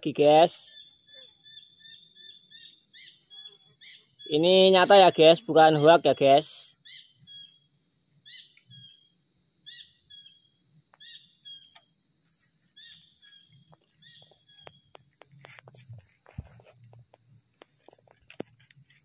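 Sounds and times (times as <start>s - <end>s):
high-pitched insect buzz: 0.0s - 19.0s.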